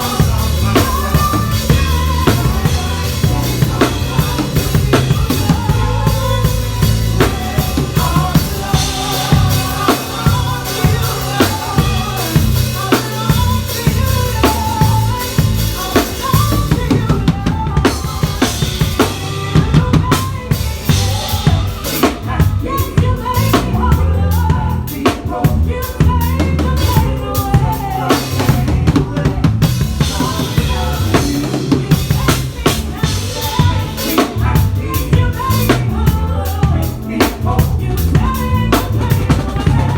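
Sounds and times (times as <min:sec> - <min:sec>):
bass line: 0:00.0 - 0:39.9
drum kit playing: 0:00.0 - 0:39.9.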